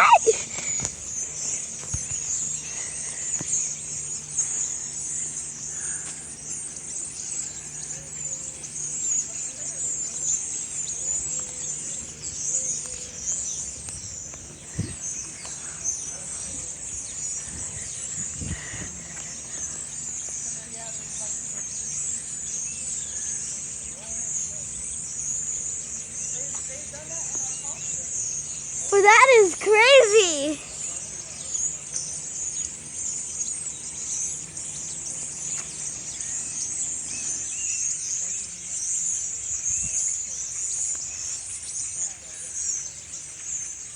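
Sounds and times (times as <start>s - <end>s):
flock of birds chattering: 0.0s - 43.9s.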